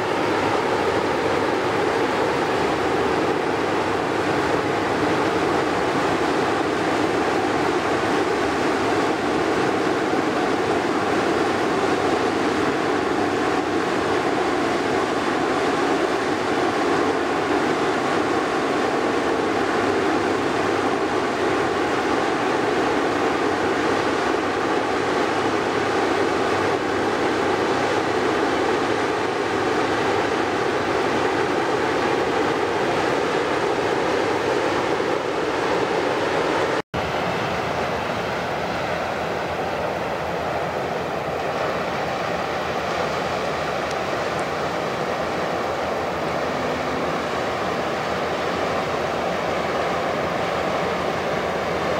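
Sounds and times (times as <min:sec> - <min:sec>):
rushing noise: 0:00.0 - 0:51.9
ship diesel engine drone: 0:00.0 - 0:51.9.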